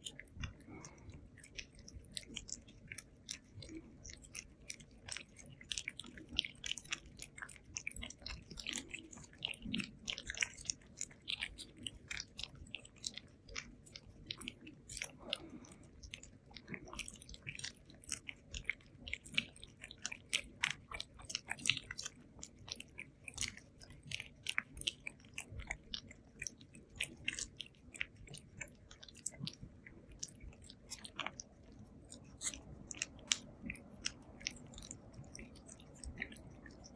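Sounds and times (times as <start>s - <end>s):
cats licking wetly: 0.0s - 36.9s.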